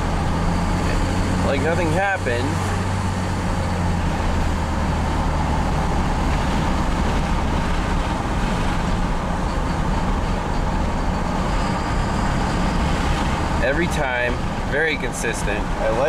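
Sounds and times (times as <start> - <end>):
diesel engine drone: 0.0 - 16.0
tyre and road noise: 0.0 - 16.0.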